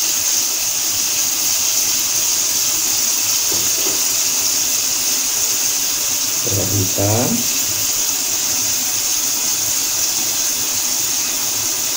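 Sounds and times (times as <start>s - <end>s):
meat sizzling in a wok: 0.0s - 11.9s.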